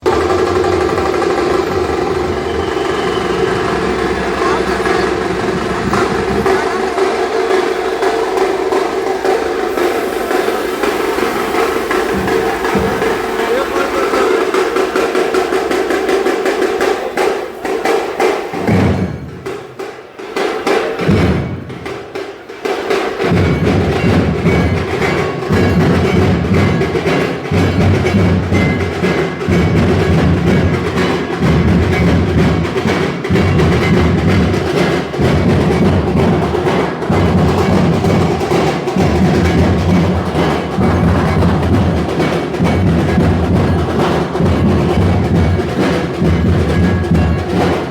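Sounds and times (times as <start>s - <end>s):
procession drumming: 5.0s - 47.9s.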